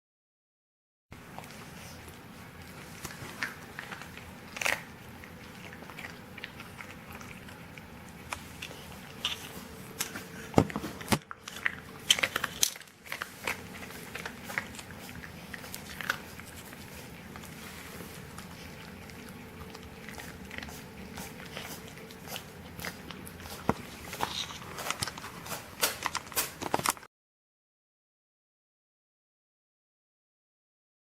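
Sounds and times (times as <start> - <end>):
pet crunching a treat: 1.2 - 27.1.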